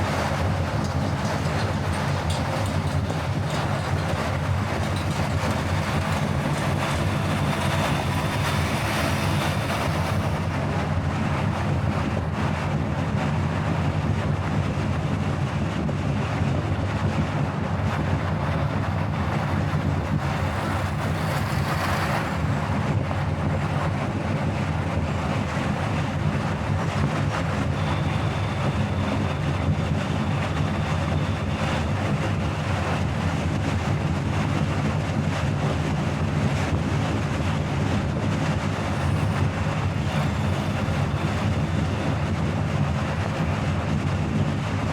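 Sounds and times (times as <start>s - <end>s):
car road and wind noise: 0.0s - 44.9s.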